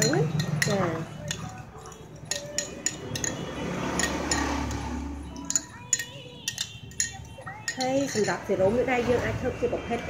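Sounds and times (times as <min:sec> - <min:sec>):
metal spoon clinking in glass bowl: 0:00.0 - 0:09.1.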